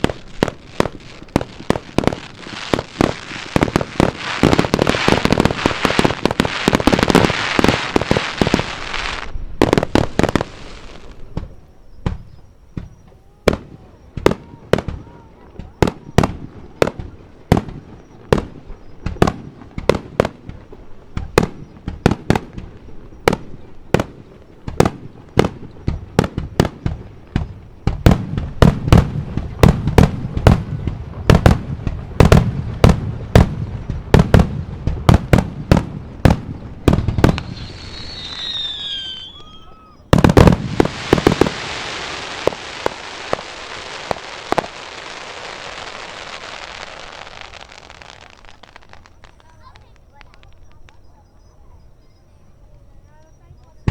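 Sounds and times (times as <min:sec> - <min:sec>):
falling firework whistles: 0:00.0 - 0:20.5, 0:21.1 - 0:53.9
deep firework booms: 0:00.0 - 0:49.8
firework crackling hiss: 0:00.0 - 0:51.0
firework shells bursting: 0:00.0 - 0:51.0.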